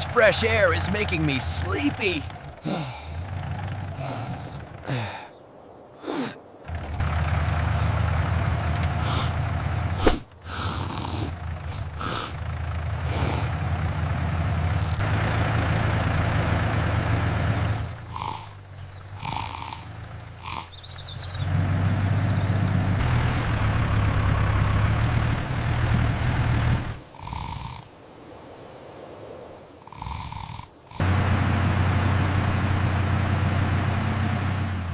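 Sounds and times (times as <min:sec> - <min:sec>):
tractor engine humming: 0:00.0 - 0:27.9, 0:29.9 - 0:34.9.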